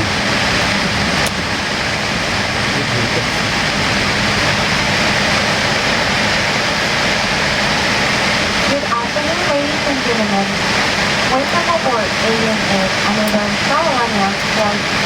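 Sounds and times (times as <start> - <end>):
low steady hum: 0.0 - 15.0
ventilation air rushing: 0.0 - 15.0.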